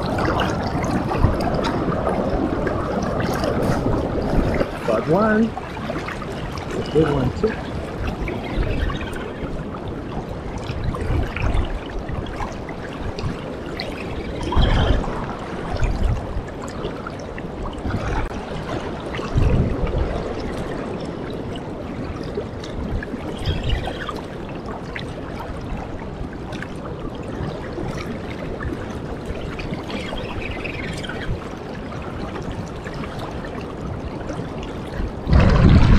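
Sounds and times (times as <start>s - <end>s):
river water lapping and splashing: 0.0s - 35.9s
wind buffeting microphone: 0.0s - 35.9s.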